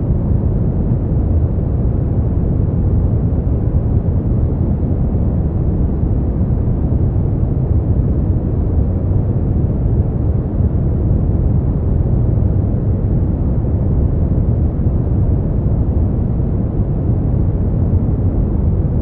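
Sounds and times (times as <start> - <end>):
deep rumbling steady noise: 0.0 - 19.0.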